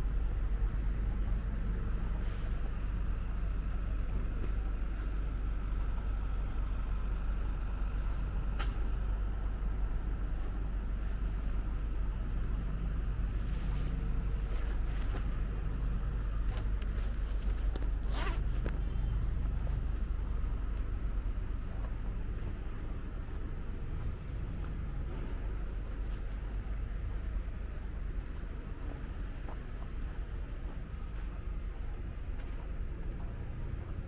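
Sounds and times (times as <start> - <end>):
rumble of passing traffic: 0.0 - 34.0.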